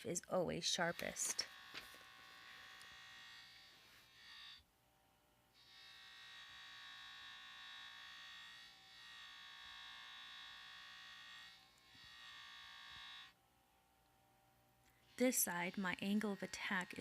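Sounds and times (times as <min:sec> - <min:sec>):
knife on buffing wheel whirring: 0:00.7 - 0:04.6, 0:05.6 - 0:13.4, 0:15.0 - 0:17.0.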